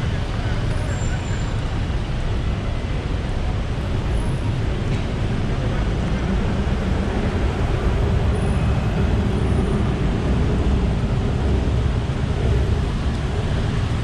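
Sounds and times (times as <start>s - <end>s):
traffic on wet road: 0.0s - 14.0s.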